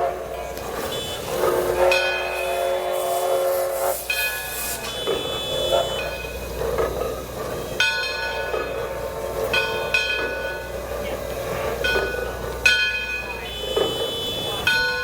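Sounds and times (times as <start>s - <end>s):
locomotive bell ringing: 0.0s - 15.0s.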